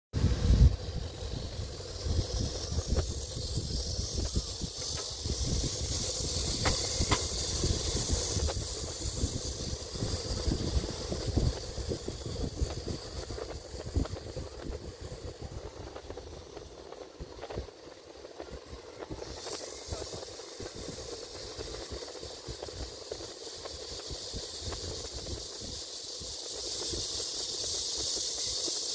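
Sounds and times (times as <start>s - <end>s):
wind buffeting microphone: 0.1s - 28.8s
steady high hiss: 0.2s - 28.9s.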